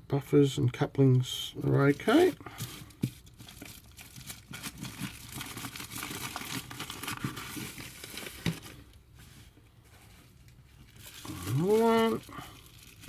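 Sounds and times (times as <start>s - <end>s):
bubble wrap crinkling: 1.9s - 13.0s.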